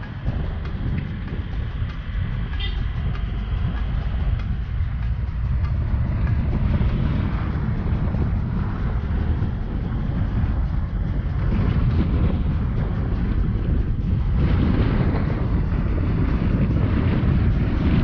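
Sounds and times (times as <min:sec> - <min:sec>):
vehicle on dirt road rumbling: 0:00.0 - 0:18.0
wind buffeting microphone: 0:00.0 - 0:18.0.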